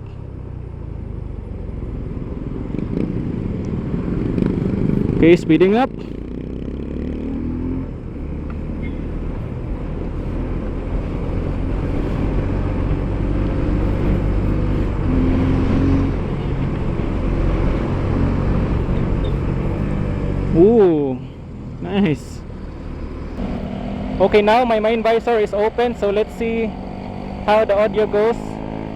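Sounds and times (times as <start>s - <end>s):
motorcycle engine: 0.0s - 28.9s.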